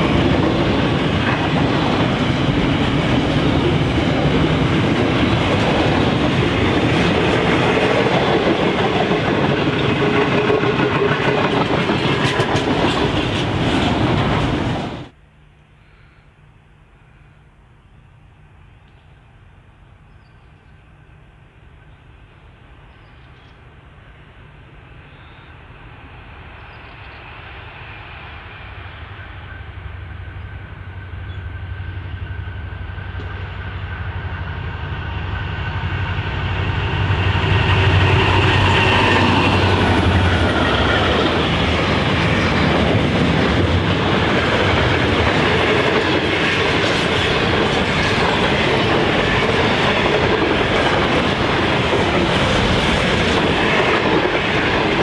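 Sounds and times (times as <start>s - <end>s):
locomotive engines: 0.0s - 55.0s.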